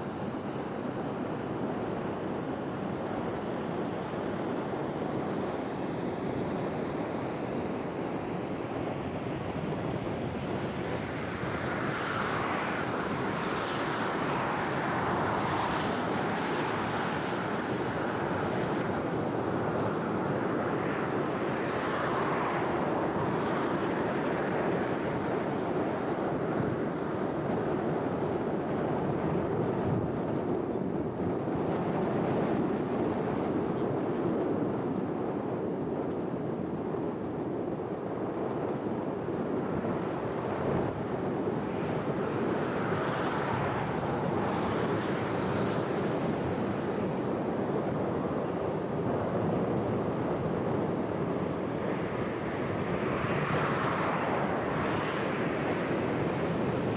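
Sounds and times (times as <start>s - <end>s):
wind on microphone: 0.0s - 56.9s.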